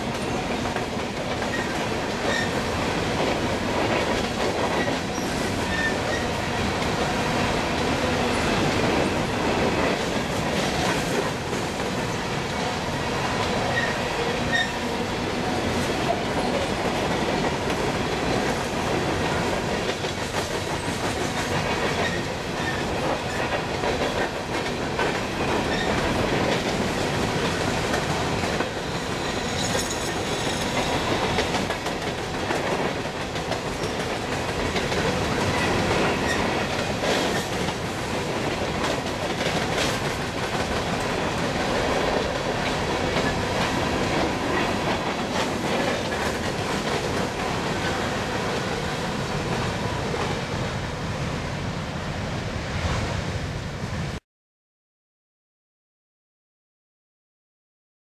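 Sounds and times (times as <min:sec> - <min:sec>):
wheels clickety-clack over rail joints: 0:00.0 - 0:50.9
train wheels rumbling on rails: 0:00.0 - 0:54.2.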